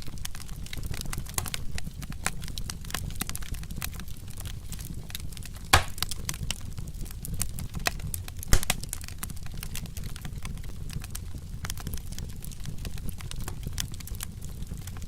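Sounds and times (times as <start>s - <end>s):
low rumble of flame: 0.0s - 15.0s
wood fire crackling: 0.0s - 15.0s.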